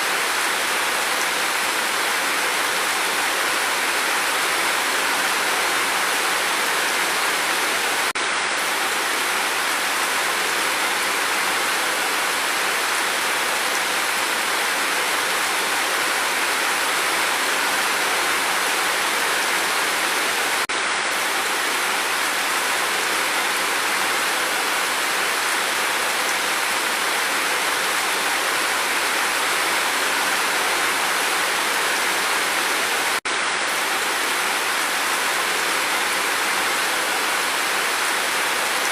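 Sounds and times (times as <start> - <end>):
steady rain hissing: 0.0 - 38.9.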